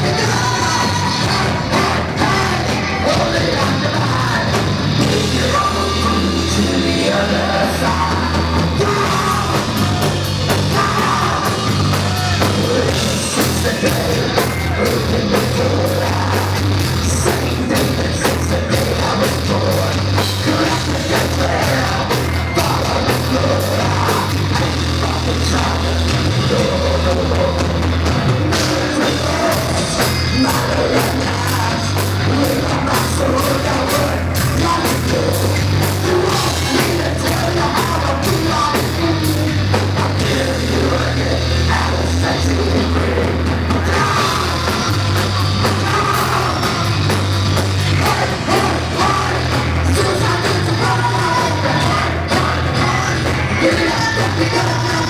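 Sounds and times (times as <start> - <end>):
heavy rock band playing: 0.0 - 55.0
person singing: 0.0 - 55.0
pounding drum kit: 0.0 - 55.0.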